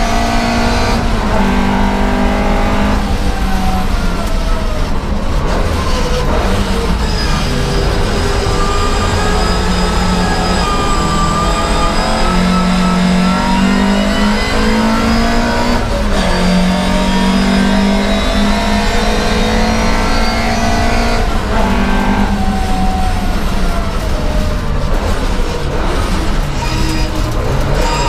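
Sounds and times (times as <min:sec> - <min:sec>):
racing car engine accelerating: 0:00.0 - 0:28.0.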